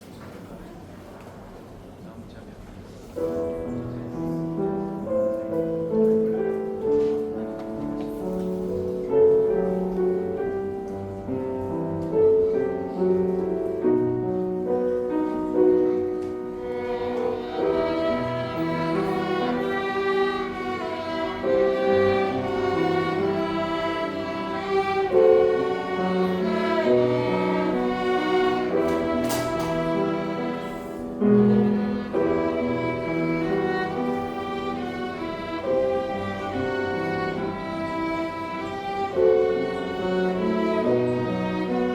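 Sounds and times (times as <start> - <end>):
string ensemble playing hymn: 3.2 - 41.9.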